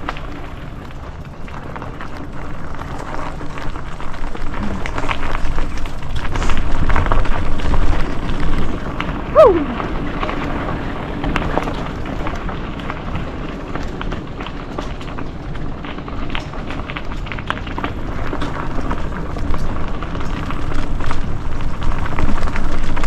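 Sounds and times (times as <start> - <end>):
bike rattling: 0.0 - 23.0
bike tyres rolling over rough ground: 0.0 - 23.0.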